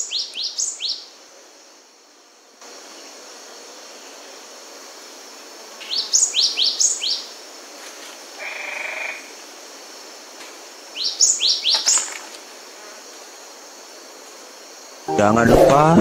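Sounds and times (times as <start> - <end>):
high background hiss: 0.0 - 16.0.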